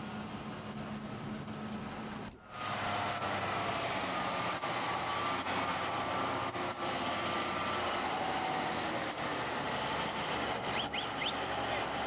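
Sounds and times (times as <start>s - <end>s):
vehicle running noise: 0.0s - 12.0s.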